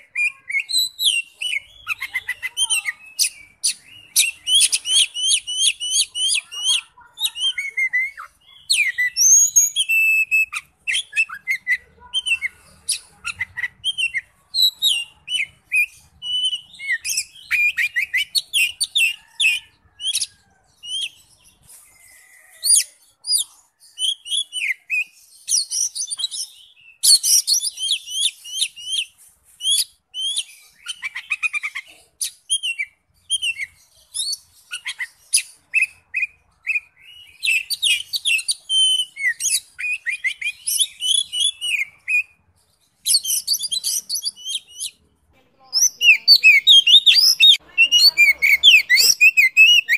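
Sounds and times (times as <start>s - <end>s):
bird singing: 0.0s - 49.9s.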